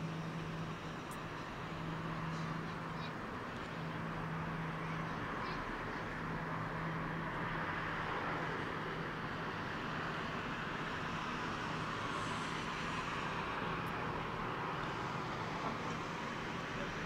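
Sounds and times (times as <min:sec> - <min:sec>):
distant tram humming: 0:00.0 - 0:17.0.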